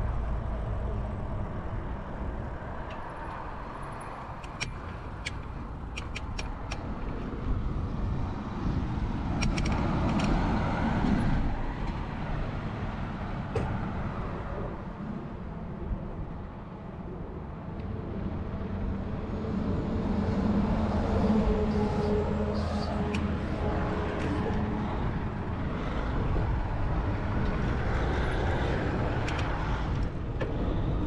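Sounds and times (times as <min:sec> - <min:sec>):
wind rumble: 0:00.0 - 0:31.0.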